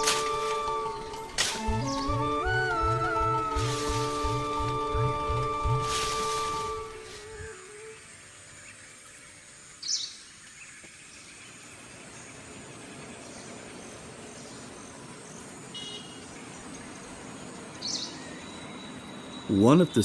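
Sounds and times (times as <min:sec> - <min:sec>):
insect drone: 0:00.0 - 0:19.5.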